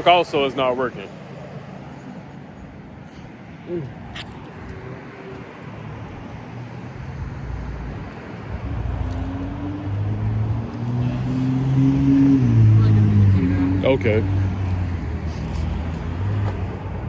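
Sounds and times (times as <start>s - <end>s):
car engine rumble: 2.5s - 17.0s.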